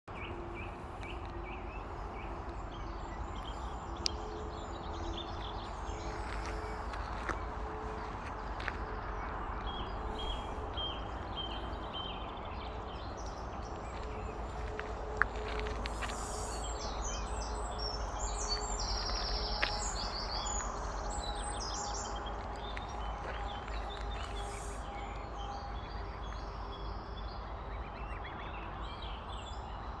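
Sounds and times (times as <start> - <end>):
low outdoor rumble: 0.1 - 28.3
birds chirping: 0.1 - 28.4.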